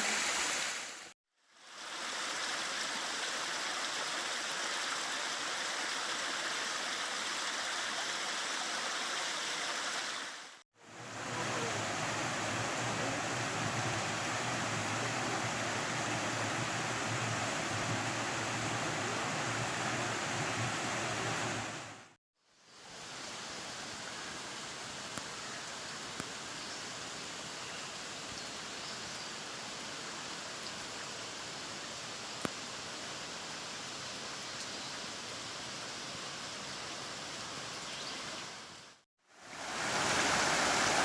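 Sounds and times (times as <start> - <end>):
rushing stream water: 0.0 - 22.2, 29.8 - 41.0.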